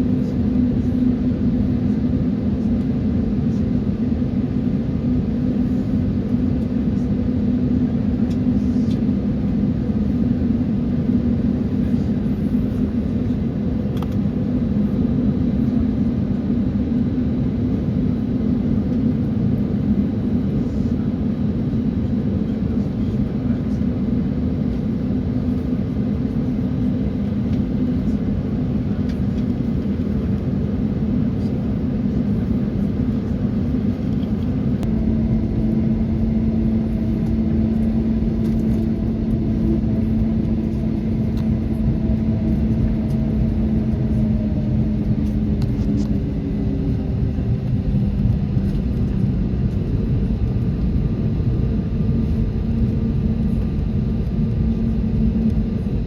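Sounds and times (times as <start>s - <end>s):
jet engines from cabin: 0.0s - 56.0s.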